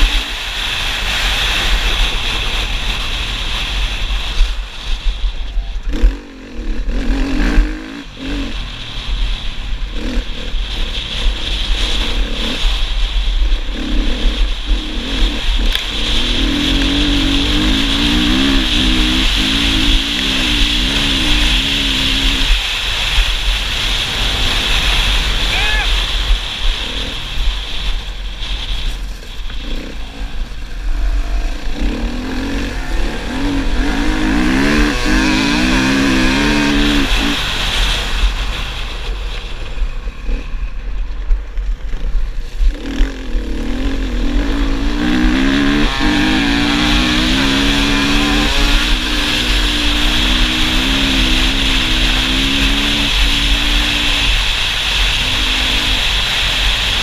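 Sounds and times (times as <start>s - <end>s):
motorcycle engine accelerating: 0.0s - 57.0s
wind rushing over microphone: 0.0s - 57.0s.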